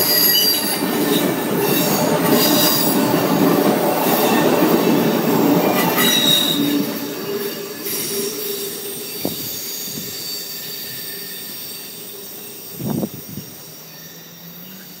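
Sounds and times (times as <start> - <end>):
train wheels squealing on track: 0.0 - 15.0.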